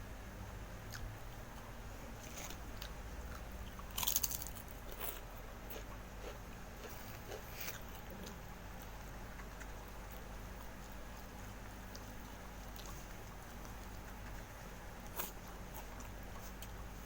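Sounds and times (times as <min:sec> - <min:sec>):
person chewing crunchy food: 0:02.2 - 0:16.8.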